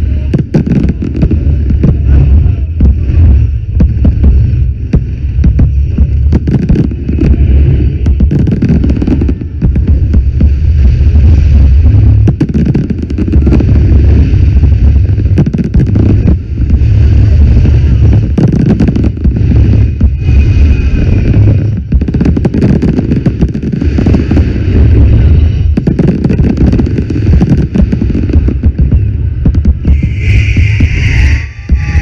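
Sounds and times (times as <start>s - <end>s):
fireworks cracking and popping: 0.0s - 29.9s
fireworks booming: 0.0s - 32.0s.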